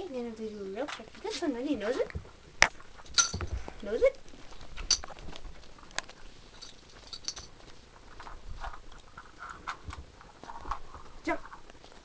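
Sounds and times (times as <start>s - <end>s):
dog paws clicking and pattering: 0.8s - 12.0s.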